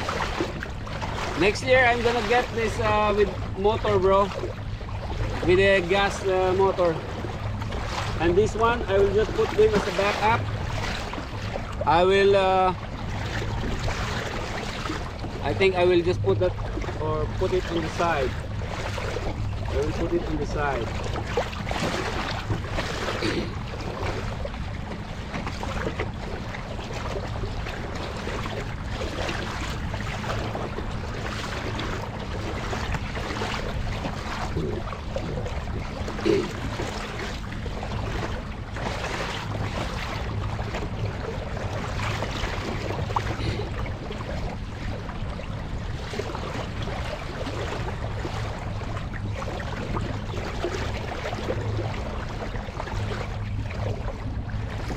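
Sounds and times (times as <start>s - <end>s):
water splashing against hull: 0.0s - 54.9s.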